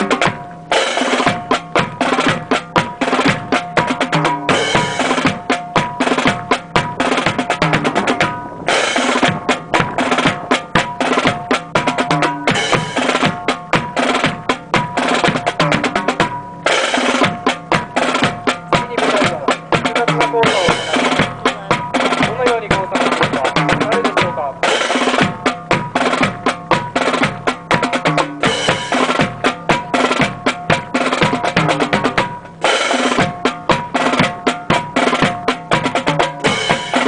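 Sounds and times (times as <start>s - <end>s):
snare drum beats and rolls: 0.0s - 37.0s
bass drum strokes: 1.2s - 32.6s.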